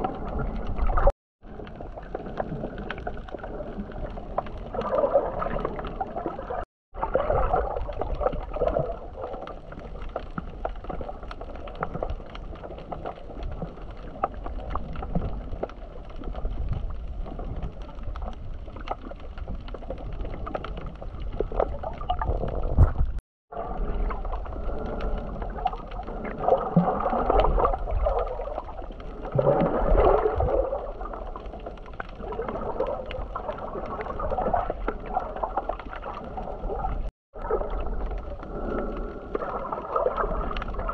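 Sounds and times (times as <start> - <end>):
small clicks and crackles: 0.0 - 23.2, 23.8 - 40.9
low underwater rumble: 0.0 - 40.9
water sloshing and gurgling: 0.0 - 40.9.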